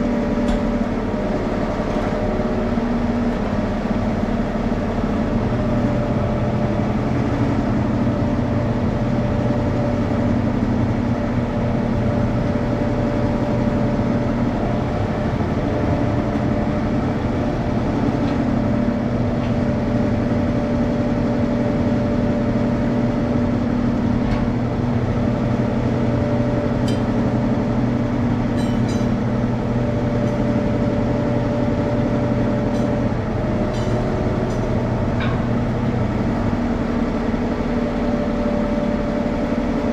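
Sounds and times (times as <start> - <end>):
machinery droning: 0.0 - 39.9.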